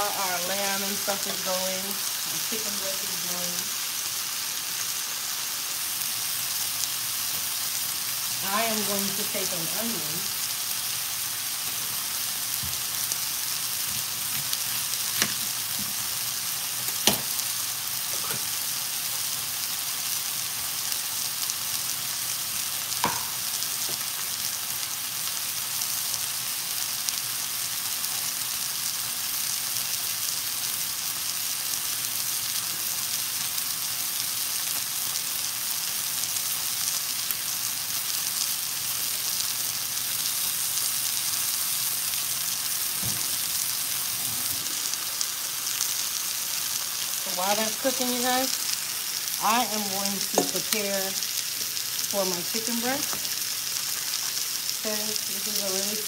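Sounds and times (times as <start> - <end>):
meat sizzling in a skillet: 0.0 - 56.0.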